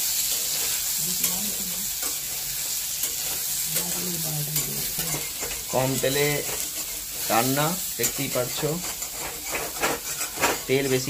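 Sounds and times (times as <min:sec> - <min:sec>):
food sizzling in oil: 0:00.0 - 0:11.0
metal spatula scraping pan: 0:00.1 - 0:11.0.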